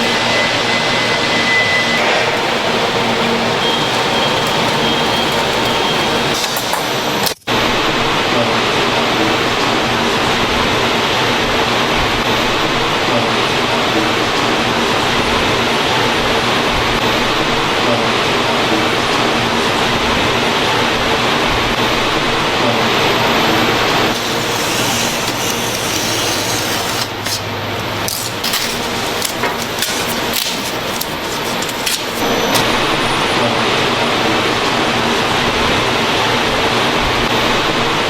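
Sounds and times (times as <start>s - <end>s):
factory machinery running: 0.0s - 38.0s.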